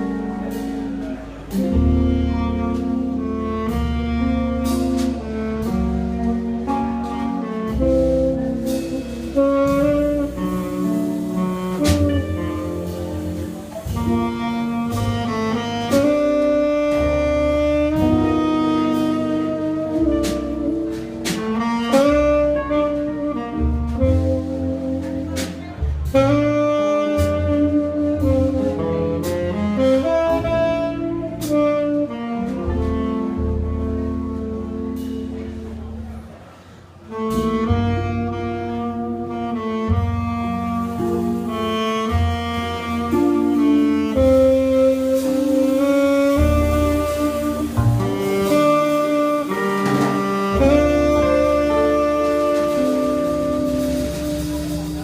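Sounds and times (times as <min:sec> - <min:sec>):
jazz band playing: 0:00.0 - 0:55.0
saxophone melody: 0:00.0 - 0:55.0
walking bass line: 0:00.0 - 0:55.0.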